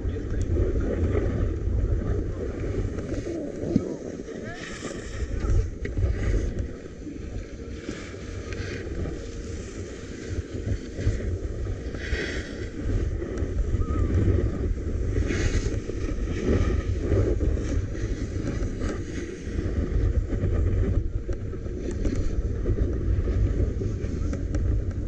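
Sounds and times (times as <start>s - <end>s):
wind buffeting microphone: 0.0s - 25.0s
snowboard scraping packed snow: 0.1s - 25.0s.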